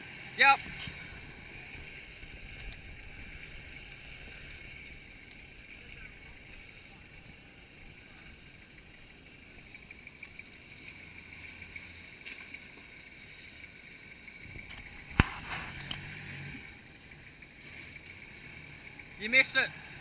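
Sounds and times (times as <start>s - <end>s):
car engine at low revs: 0.0s - 20.0s.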